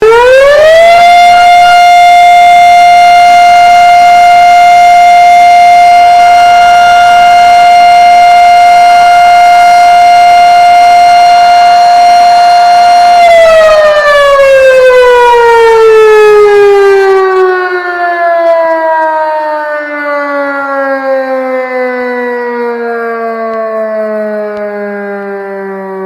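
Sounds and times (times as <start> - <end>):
electromechanical siren wailing: 0.0 - 26.0.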